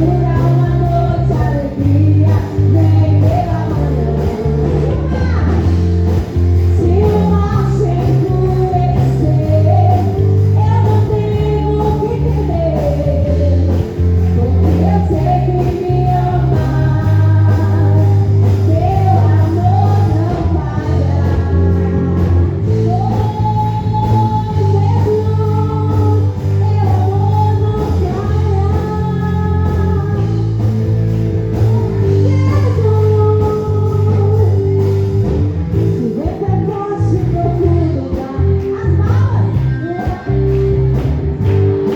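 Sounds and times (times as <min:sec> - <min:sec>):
band with heavy bass: 0:00.0 - 0:41.9
person singing: 0:00.0 - 0:41.9.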